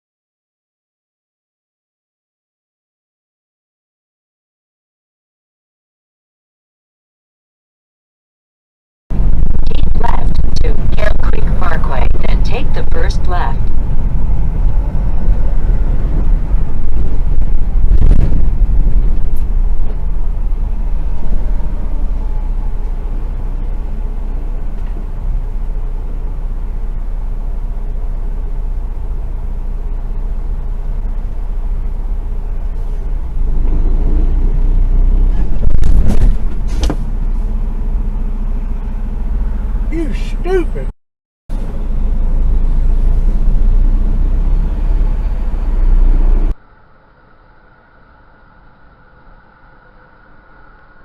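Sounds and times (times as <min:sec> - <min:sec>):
vehicle engine and road rumble: 0:09.1 - 0:40.9, 0:41.5 - 0:51.0.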